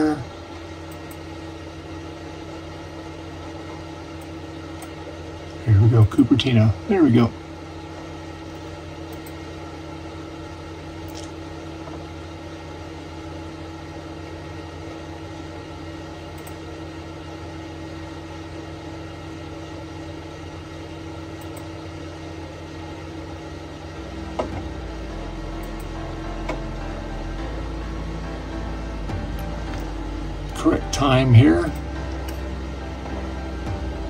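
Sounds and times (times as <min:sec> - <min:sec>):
mechanical hum with held tone: 0:00.0 - 0:34.0.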